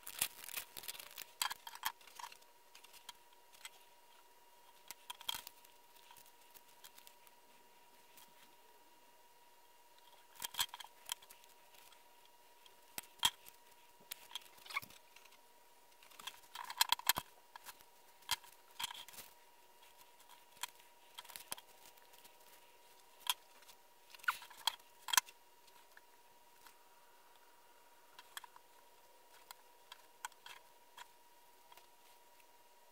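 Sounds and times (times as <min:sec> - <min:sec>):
faint high whine: 0:00.0 - 0:32.9.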